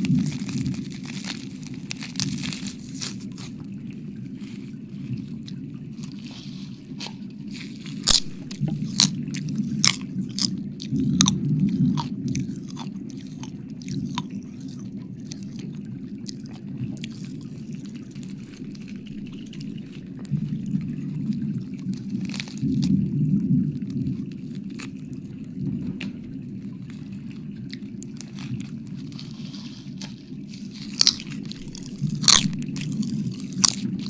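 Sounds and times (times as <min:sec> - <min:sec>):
wet mouth clicks and chewing: 0:00.0 - 0:23.0, 0:23.8 - 0:25.2, 0:26.9 - 0:34.0
steady low rumble: 0:00.0 - 0:34.0.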